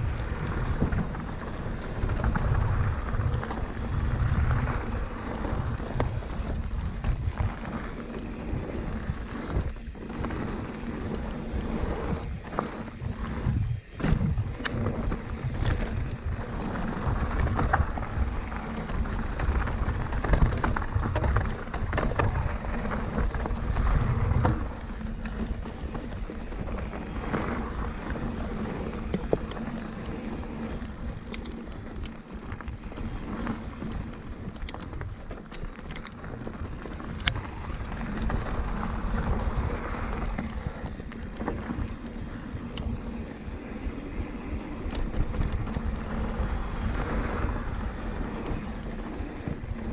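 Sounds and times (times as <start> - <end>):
bike clicks and rattles: 0.0 - 49.9
tyres rolling over dirt: 0.0 - 49.9
wind buffeting microphone: 0.0 - 49.9.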